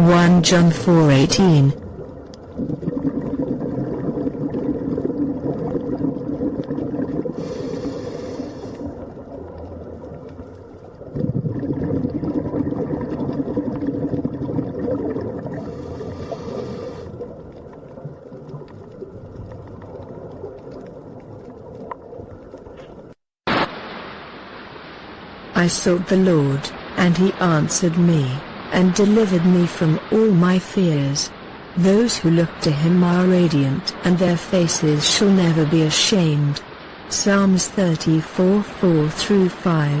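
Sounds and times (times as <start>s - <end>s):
water flowing and gurgling: 0.0s - 40.0s.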